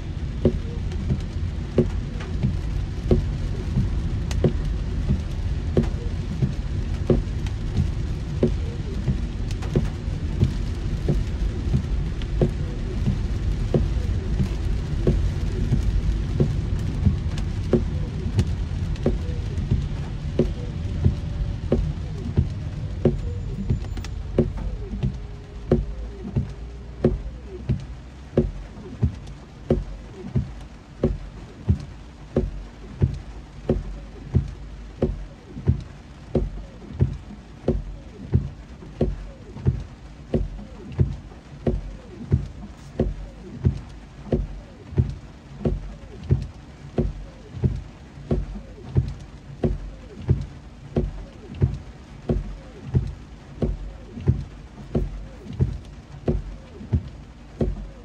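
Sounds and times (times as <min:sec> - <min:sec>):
rain hiss: 0:00.0 - 0:58.0
road noise inside car: 0:00.0 - 0:58.0
windshield wipers thudding: 0:00.0 - 0:58.0.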